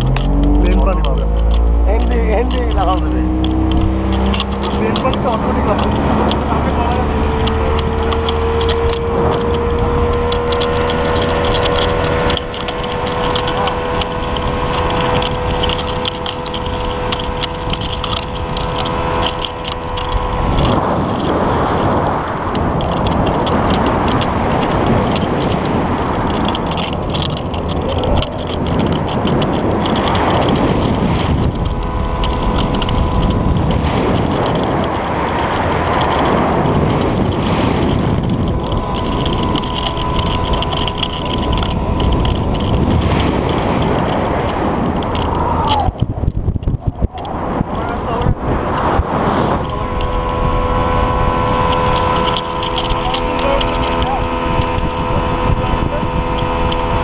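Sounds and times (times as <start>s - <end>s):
outboard motor whining: 0.0s - 57.0s
rushing wind and water: 0.0s - 57.0s.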